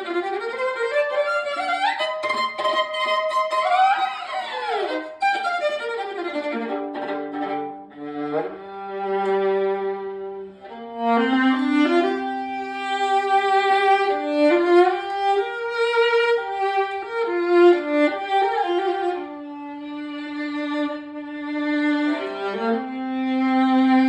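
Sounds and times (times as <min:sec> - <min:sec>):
solo violin melody: 0:00.0 - 0:24.0.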